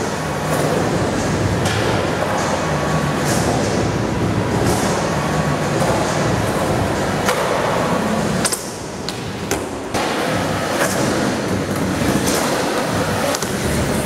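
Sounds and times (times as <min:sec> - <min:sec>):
skateboard wheels rolling: 0:00.0 - 0:14.0.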